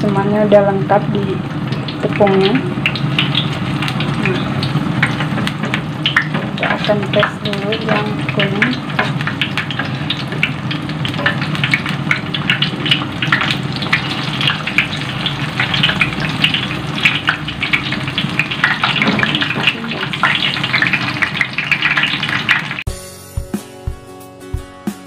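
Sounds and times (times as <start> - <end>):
battered food sizzling in oil: 0.0 - 22.9.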